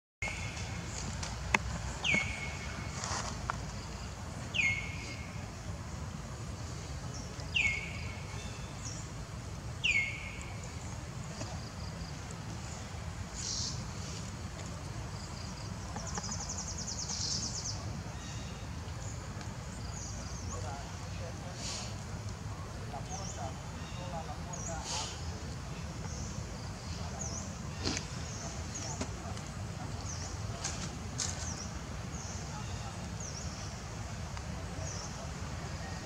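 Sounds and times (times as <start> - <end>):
low outdoor background noise: 0.2 - 36.0.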